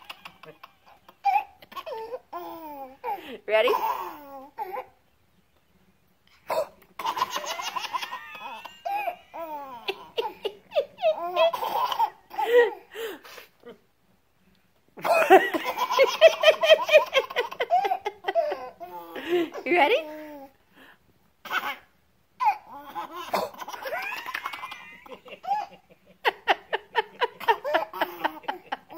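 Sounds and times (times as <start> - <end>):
baby laughing: 0.0 - 4.9, 6.5 - 12.8, 15.0 - 20.4, 21.4 - 28.9.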